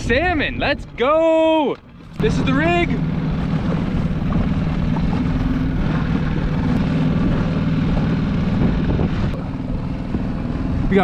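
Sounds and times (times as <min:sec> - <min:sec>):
outboard motor drone: 0:00.0 - 0:11.0.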